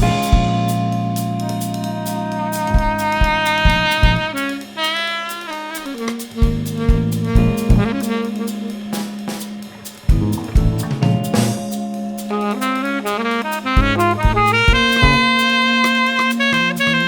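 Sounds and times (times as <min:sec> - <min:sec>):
jazz fusion band playing: 0:00.0 - 0:17.0.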